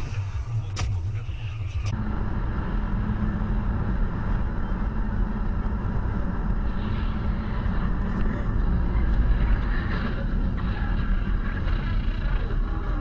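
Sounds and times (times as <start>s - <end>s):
car road and engine noise: 0.0s - 13.0s
low steady hum: 0.0s - 13.0s.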